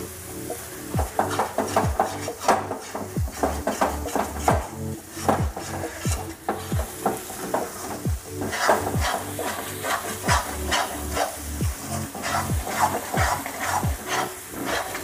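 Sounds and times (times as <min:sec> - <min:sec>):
paste sizzling in ghee: 0:00.0 - 0:15.0
steel spatula scraping a pan: 0:00.5 - 0:15.0.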